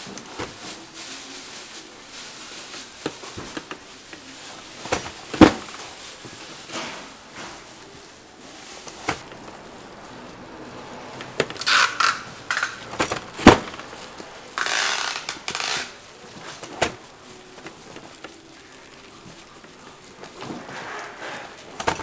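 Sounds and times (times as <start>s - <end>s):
crunching rustling noise: 0.0s - 22.0s.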